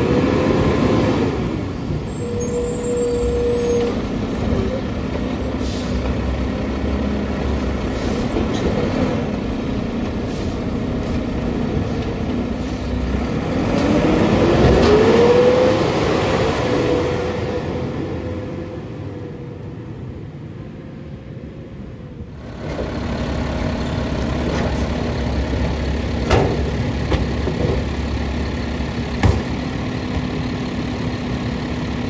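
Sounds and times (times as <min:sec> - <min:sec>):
garbage truck engine: 0:00.0 - 0:32.0.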